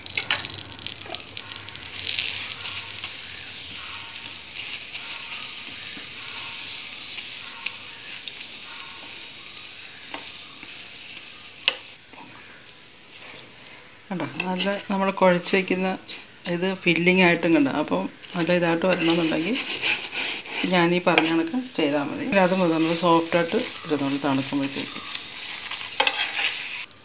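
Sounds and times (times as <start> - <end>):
flatbread sizzling in oil: 0.0 - 27.0.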